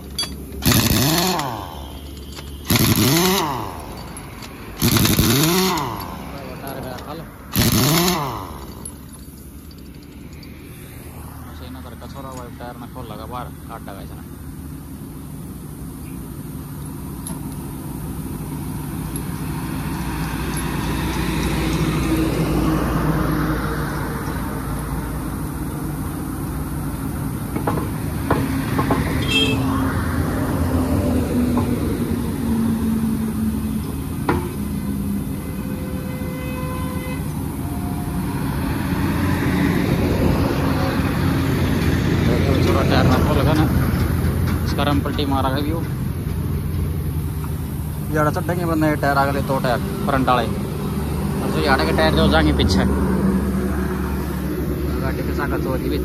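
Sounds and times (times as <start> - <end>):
heavy vehicle engines droning: 0.0 - 56.0.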